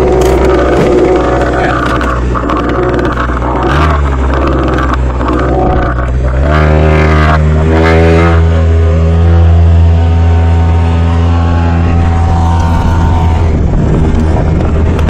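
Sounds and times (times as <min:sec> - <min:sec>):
outboard motor speeding up: 0:00.0 - 0:15.0.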